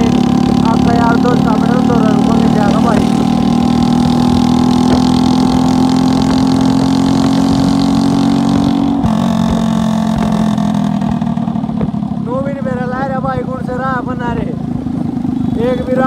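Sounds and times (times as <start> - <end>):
dense noisy rush: 0.0 - 16.0
vehicle engine running: 0.0 - 16.0.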